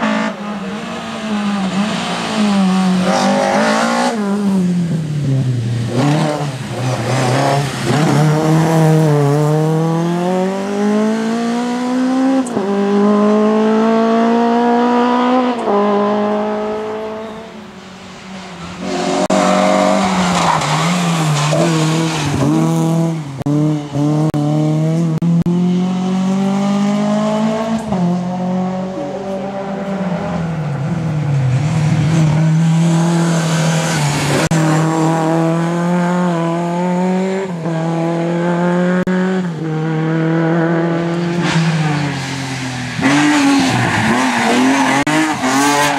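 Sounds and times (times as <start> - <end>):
rally car engine revving: 0.0 - 17.5, 18.7 - 45.9.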